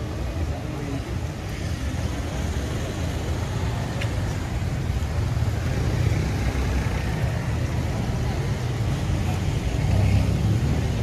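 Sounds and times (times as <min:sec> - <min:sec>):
car engines rumbling: 0:00.0 - 0:11.0
wet street noise: 0:00.0 - 0:11.0.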